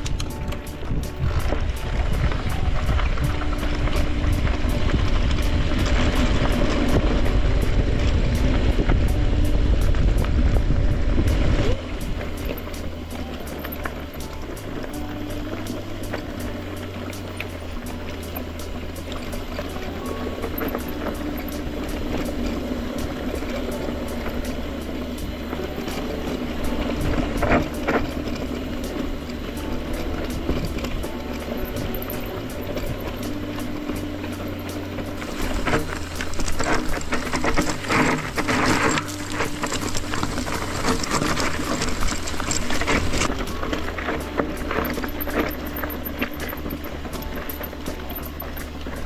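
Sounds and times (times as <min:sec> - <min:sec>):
background music: 0:00.0 - 0:49.0
bike tyres rattling over trail: 0:00.0 - 0:49.0
wind rumbling on microphone: 0:00.0 - 0:49.0.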